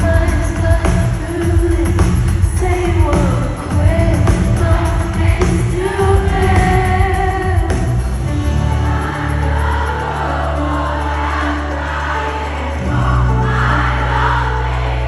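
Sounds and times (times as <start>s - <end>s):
band with heavy bass: 0.0s - 15.0s
woman singing lead: 0.0s - 15.0s.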